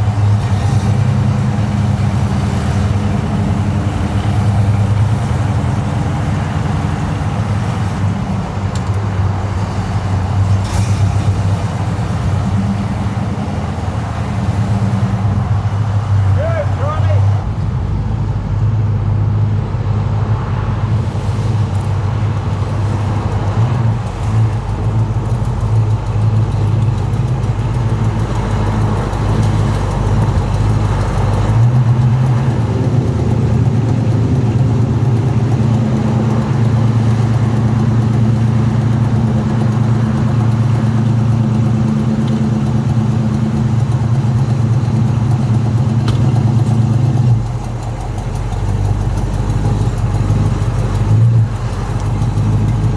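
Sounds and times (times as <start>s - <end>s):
car engine rumbling: 0.0s - 52.9s.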